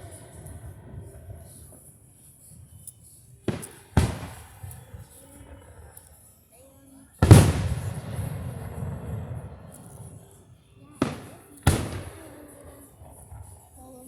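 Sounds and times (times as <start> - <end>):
fireworks shells booming: 0.0 - 6.3, 7.1 - 14.0.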